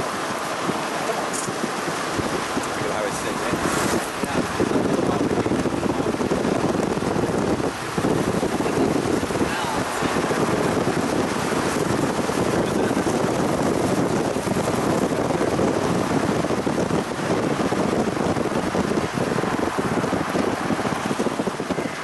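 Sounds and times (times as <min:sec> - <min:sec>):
moving vehicle rumble: 0:00.0 - 0:22.0
rushing wind: 0:00.0 - 0:22.0.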